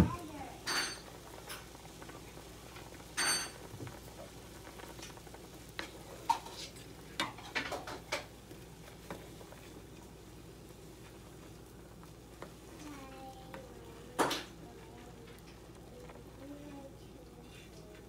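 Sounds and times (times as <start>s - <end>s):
sauce bubbling in a pan: 0.0s - 18.0s.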